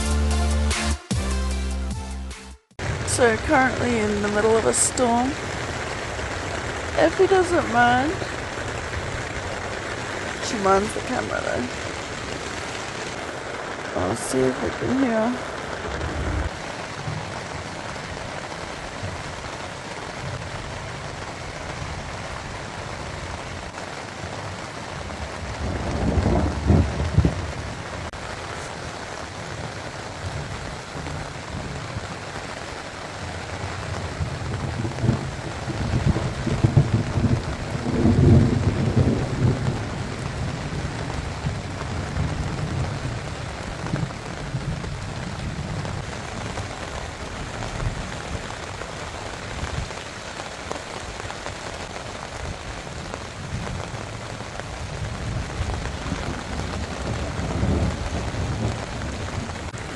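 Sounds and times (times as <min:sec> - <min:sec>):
heavy rain on a tent: 0:02.8 - 0:59.9
thunder rumble: 0:02.8 - 0:59.9.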